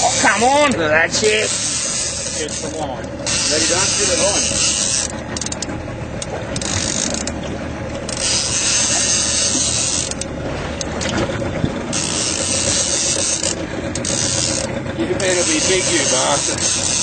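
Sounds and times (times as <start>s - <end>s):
low rumble: 0.0s - 15.2s
fishing reel ratcheting click: 1.4s - 11.1s, 11.9s - 17.0s.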